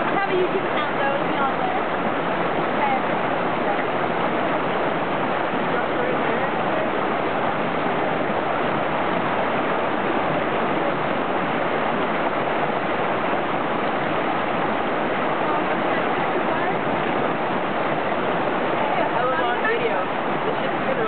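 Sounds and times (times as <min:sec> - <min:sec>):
creek water rushing over cascade: 0:00.0 - 0:21.0.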